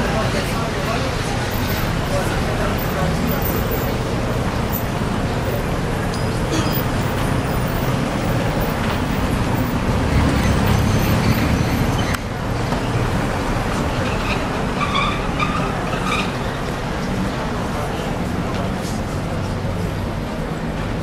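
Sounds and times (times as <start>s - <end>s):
cars passing: 0.0s - 21.0s
traffic rumble: 0.0s - 21.0s
voices of passers-by: 0.0s - 21.0s.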